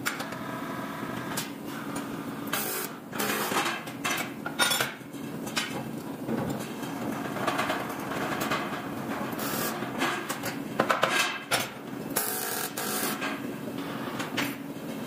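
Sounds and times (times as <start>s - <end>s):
steady factory din: 0.0s - 15.0s.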